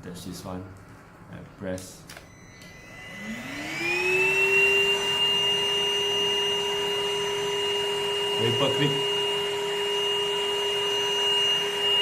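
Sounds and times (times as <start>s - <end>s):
vacuum cleaner motor whining: 2.3s - 12.0s.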